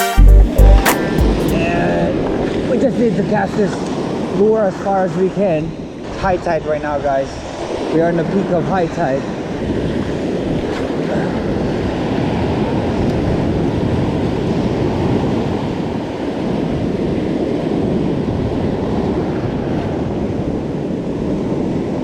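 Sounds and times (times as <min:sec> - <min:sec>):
ocean surf breaking: 0:00.8 - 0:22.0
wind buffeting microphone: 0:01.0 - 0:22.0.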